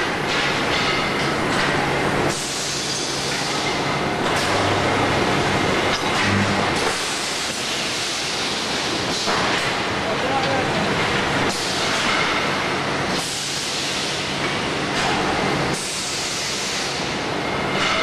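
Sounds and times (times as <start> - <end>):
roll forming machine running: 0.0 - 18.0.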